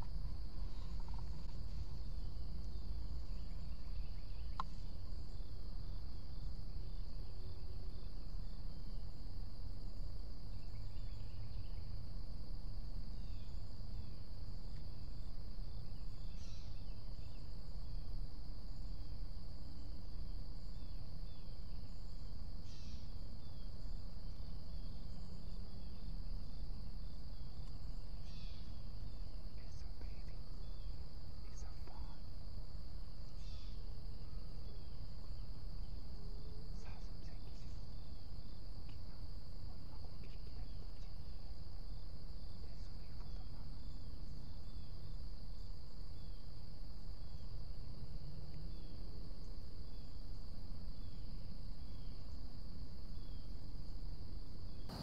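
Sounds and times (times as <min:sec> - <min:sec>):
insects droning: 0:00.0 - 0:55.0
low background rumble: 0:00.0 - 0:55.0.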